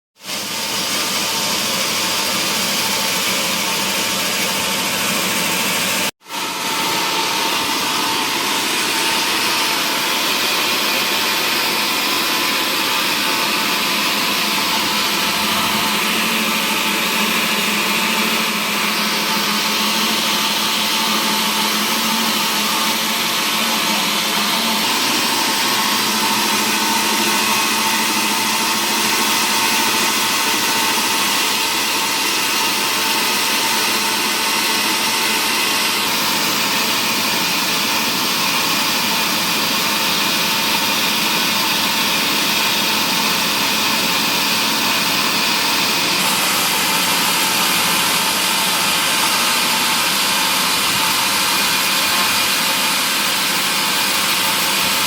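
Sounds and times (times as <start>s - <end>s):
wood-processing machinery running: 0.2s - 55.0s.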